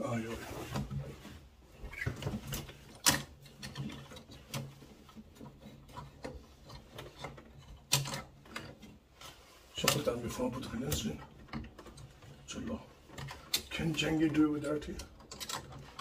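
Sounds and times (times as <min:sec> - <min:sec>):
tools clicking and knocking: 0:02.0 - 0:09.0, 0:09.8 - 0:16.0.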